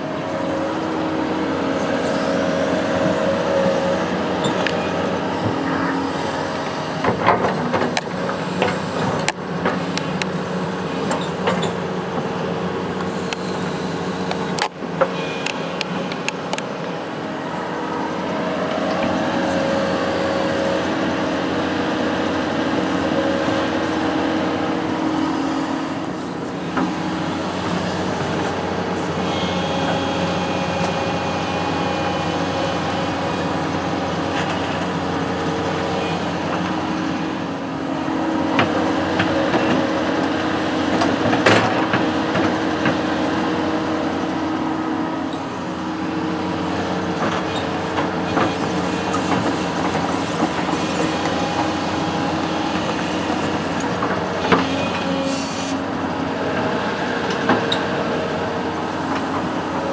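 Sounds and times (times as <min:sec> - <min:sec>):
construction machine engine running: 0:00.0 - 0:59.9.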